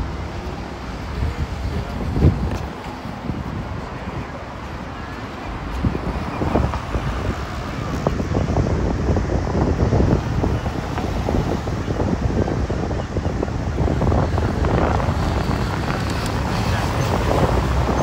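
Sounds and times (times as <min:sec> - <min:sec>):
low rumble of road traffic: 0:00.0 - 0:18.0
wind buffeting microphone: 0:00.0 - 0:18.0.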